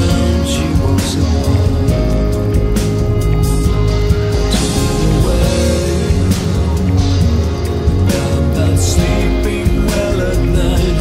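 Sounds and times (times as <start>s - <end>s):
bass line: 0.0s - 11.0s
live band instrumental: 0.0s - 11.0s.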